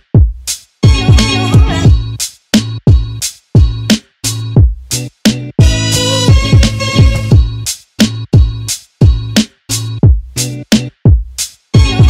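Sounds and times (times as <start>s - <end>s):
music with kick drums and bass: 0.0s - 12.0s.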